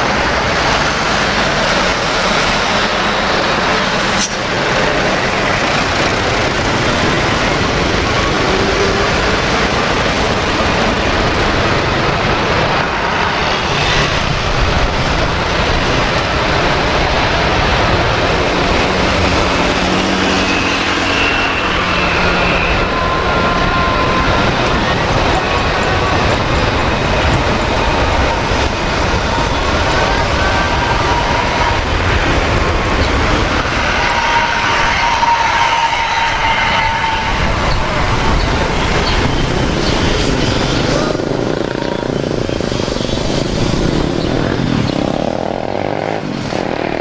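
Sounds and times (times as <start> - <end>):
jet engines rumbling with whine: 0.0 - 47.0.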